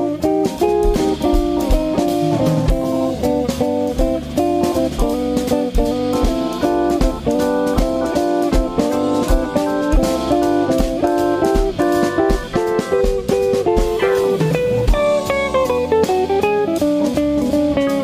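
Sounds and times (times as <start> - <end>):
organ: 0.0 - 16.2
drum kit: 0.0 - 18.0
electric guitar: 0.0 - 18.0.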